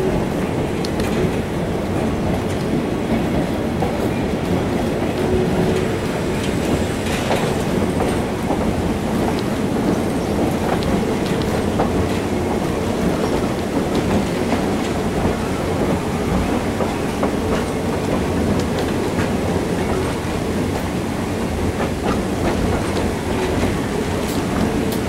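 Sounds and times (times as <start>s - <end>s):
train car rumble: 0.0s - 25.0s.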